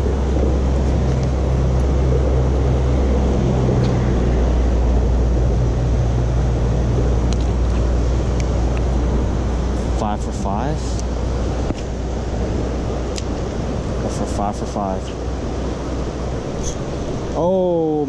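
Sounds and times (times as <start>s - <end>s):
traffic rumble overhead: 0.0s - 18.0s.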